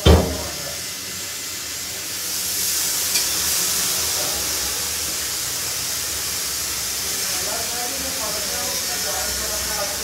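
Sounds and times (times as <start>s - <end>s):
hissing spray of water and steam: 0.0s - 10.0s.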